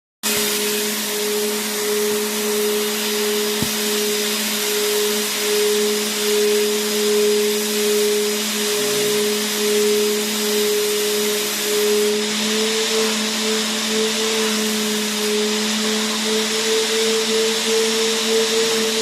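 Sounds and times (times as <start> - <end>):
vacuum cleaner running: 0.2 - 19.0.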